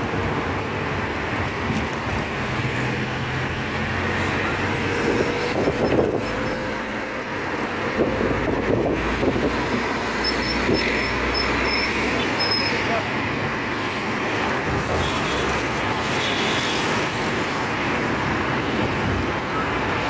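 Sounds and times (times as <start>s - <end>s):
car engine and tyres: 0.0s - 20.0s
city traffic: 0.0s - 20.0s.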